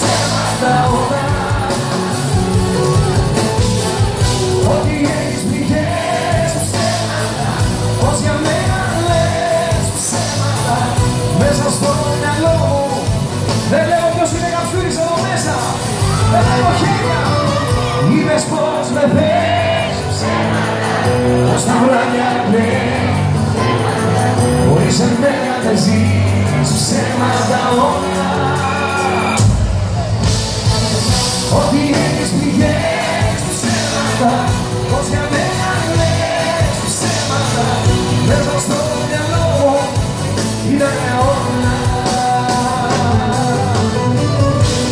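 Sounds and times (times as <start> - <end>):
live band playing pop music: 0.0 - 44.9.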